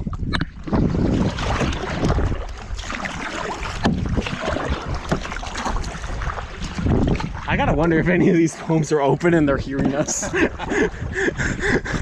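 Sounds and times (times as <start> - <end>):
water sloshing against hull: 0.0 - 12.0
wind rumble on microphone: 0.0 - 12.0
kayak paddles splashing: 0.5 - 12.0.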